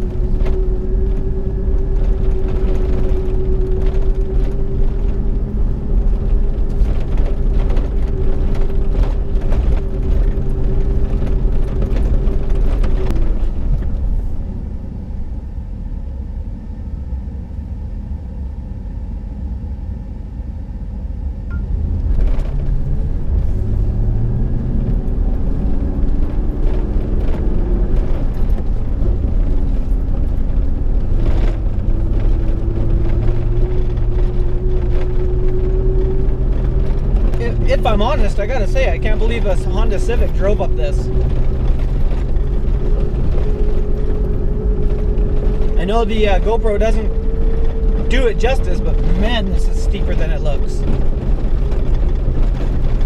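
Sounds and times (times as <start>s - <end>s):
road rumble: 0.0s - 53.0s
truck engine from inside cab: 0.0s - 53.0s.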